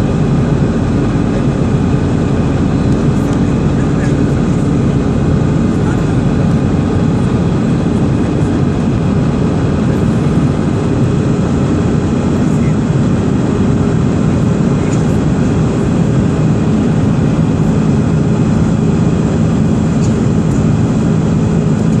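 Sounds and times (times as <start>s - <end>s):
jet engine drone: 0.0s - 22.0s
low cabin hum: 0.0s - 22.0s
rushing airflow: 0.0s - 22.0s.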